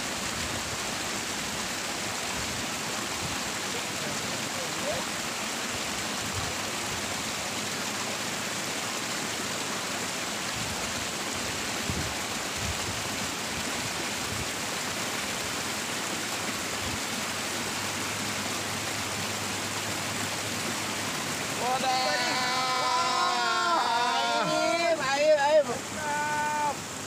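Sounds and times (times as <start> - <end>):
water rushing along a ditch: 0.0 - 27.0.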